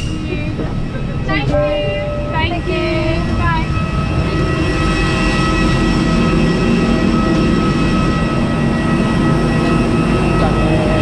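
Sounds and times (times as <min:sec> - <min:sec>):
jet turbine rumble and whine: 0:00.0 - 0:11.0
wind buffeting microphone: 0:00.0 - 0:11.0.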